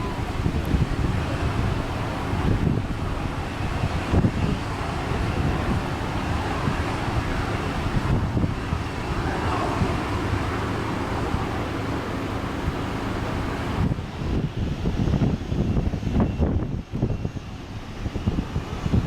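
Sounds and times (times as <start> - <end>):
steady background rumble: 0.0 - 19.0
wind buffeting microphone: 0.0 - 19.0.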